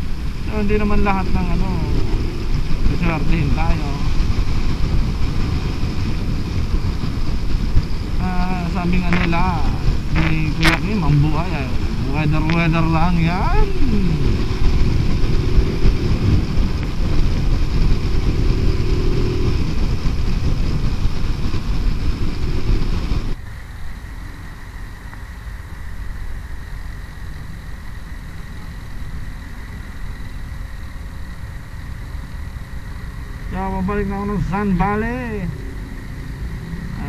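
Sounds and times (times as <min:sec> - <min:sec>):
wind buffeting microphone: 0:00.0 - 0:23.4, 0:26.3 - 0:37.0
motorcycle engine: 0:00.0 - 0:37.0
road noise: 0:00.0 - 0:37.0.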